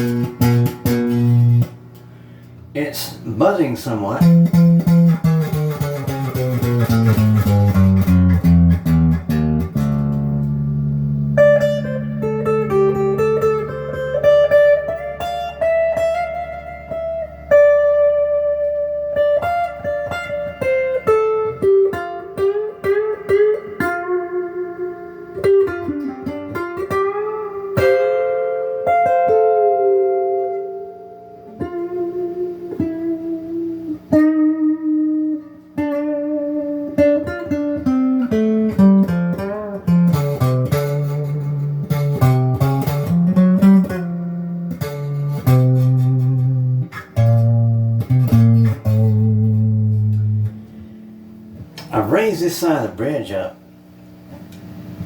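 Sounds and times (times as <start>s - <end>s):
clean electric guitar with reverb: 0.0s - 53.5s.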